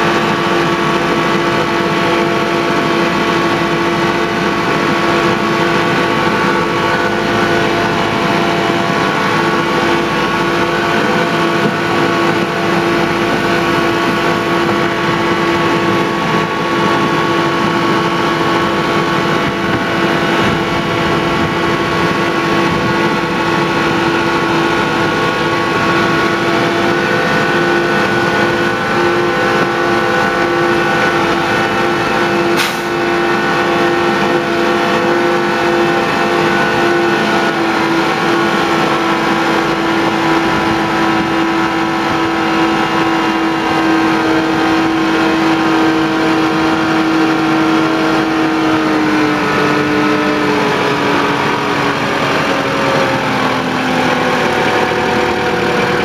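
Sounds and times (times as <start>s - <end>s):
diesel locomotive engine: 0.0s - 56.0s
wheels on track: 0.0s - 56.0s.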